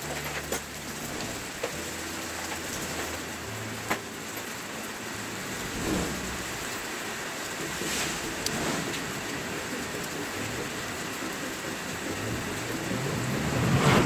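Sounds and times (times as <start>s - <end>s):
workshop background hiss: 0.0s - 14.0s.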